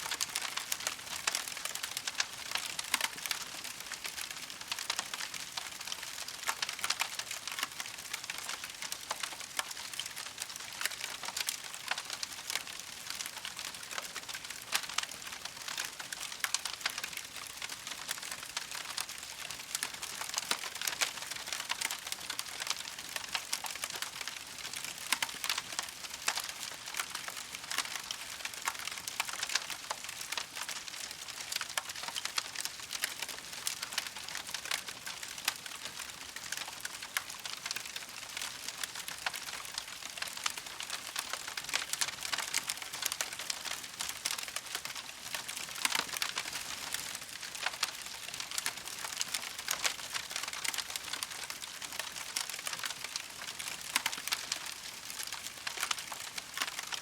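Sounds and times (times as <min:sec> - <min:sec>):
campfire crackling: 0:00.1 - 0:57.0.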